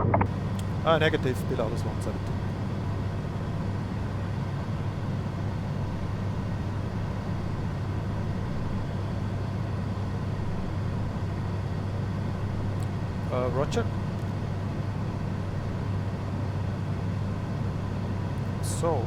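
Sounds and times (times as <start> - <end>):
jet cockpit air rush and engine hum: 0.0 - 19.0.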